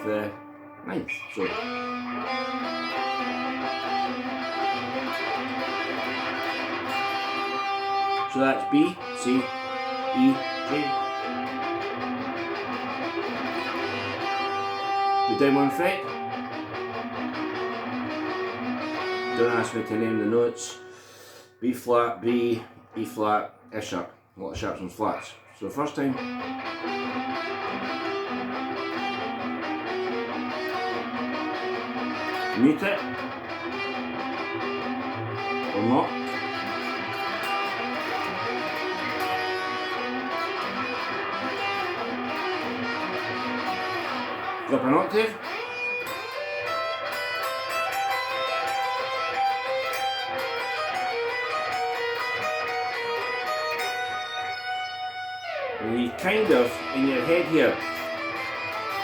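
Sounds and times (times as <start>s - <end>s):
electric guitar ringing notes: 0.0s - 23.3s, 26.0s - 59.0s.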